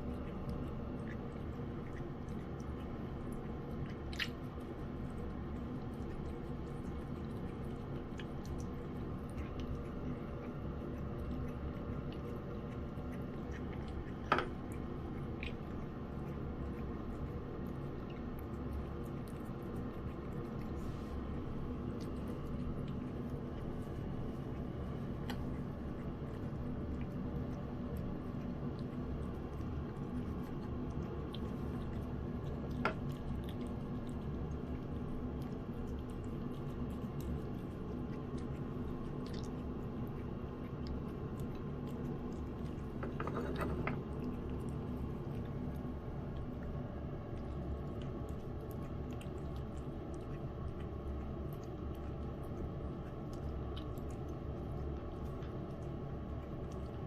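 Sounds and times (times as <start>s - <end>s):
cat chewing wet food: 0.0s - 57.0s
low steady hum: 0.0s - 57.0s.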